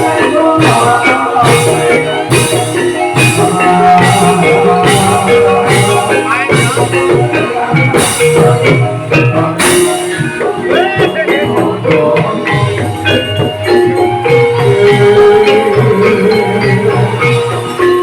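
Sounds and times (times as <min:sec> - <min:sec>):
drum strokes: 0:00.0 - 0:18.0
struck pitched bars melody: 0:00.0 - 0:18.0.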